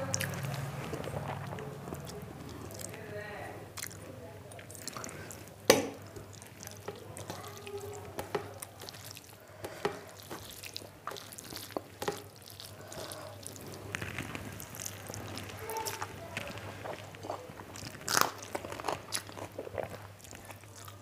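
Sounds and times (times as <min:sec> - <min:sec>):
fingers squishing rice: 0:03.8 - 0:21.0.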